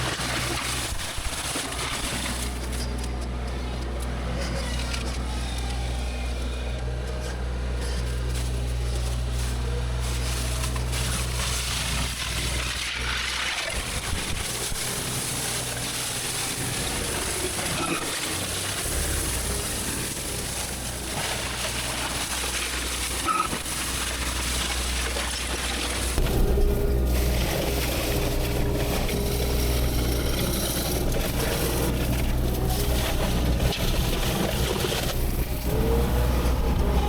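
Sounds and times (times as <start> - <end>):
heavy machinery engine humming: 0.0 - 37.0.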